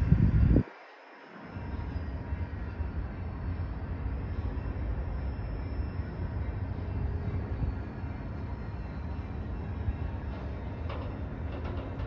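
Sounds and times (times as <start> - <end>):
freight train cars rolling: 1.2 - 12.0.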